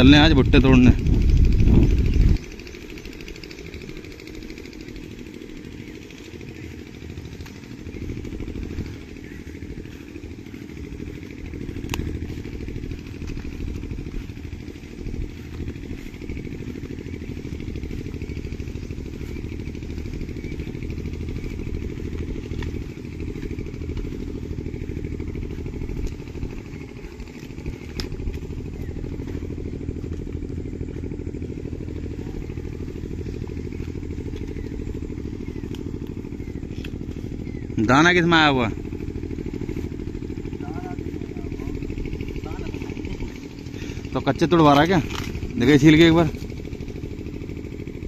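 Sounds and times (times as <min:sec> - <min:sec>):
engine throbbing: 0:00.0 - 0:48.0
sharp clicks: 0:01.3 - 0:19.2, 0:19.8 - 0:38.1, 0:41.0 - 0:47.0.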